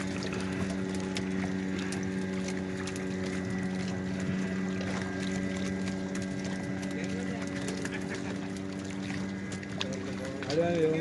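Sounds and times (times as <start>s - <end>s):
boat engine humming: 0.0s - 11.0s
oars splashing and knocking: 0.0s - 11.0s.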